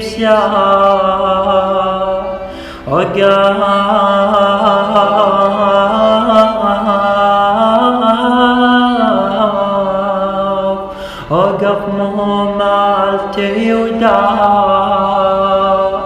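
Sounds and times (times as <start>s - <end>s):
man singing a long vowel: 0.0s - 16.0s.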